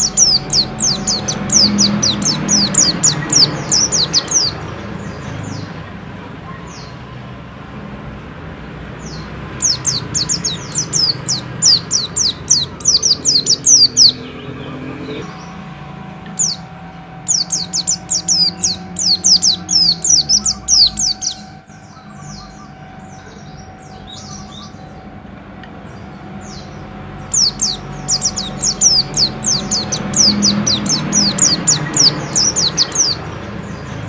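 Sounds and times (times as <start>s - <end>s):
bird singing whistled notes: 0.0s - 5.8s, 9.1s - 15.7s, 16.3s - 25.1s, 25.9s - 34.0s.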